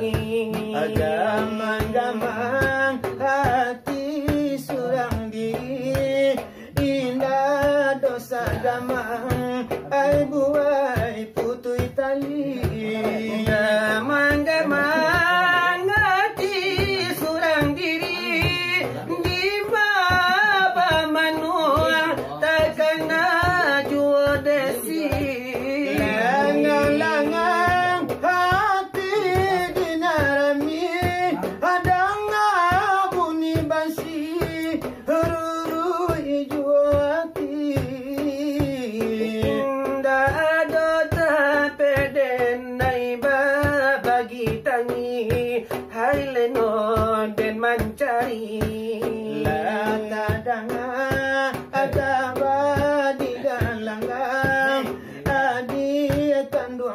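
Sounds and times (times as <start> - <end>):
hands beating brass tray: 0.0 - 56.9
men chanting: 0.0 - 56.9.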